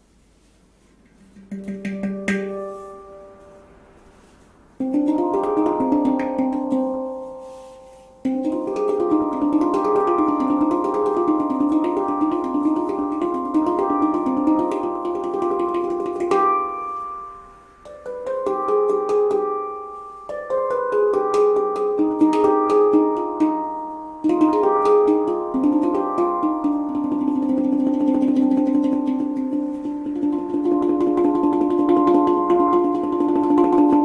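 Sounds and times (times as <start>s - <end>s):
handpan notes ringing: 1.2s - 34.0s.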